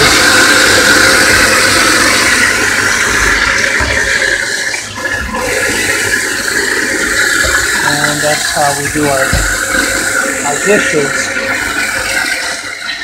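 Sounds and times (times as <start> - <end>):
garbage disposal grinding: 0.0 - 13.0
water rushing down drain: 0.0 - 13.0.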